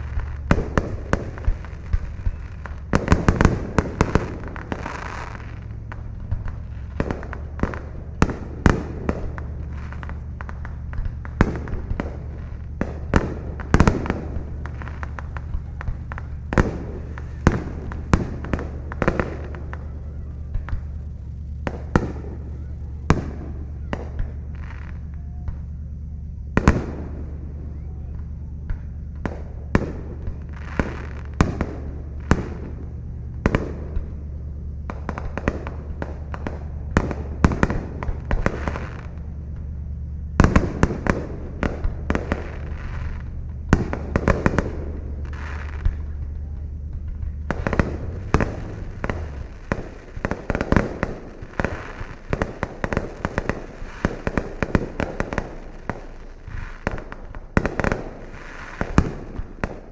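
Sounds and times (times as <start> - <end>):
fireworks bangs and pops: 0.0 - 59.9
steady low hum: 0.0 - 59.9.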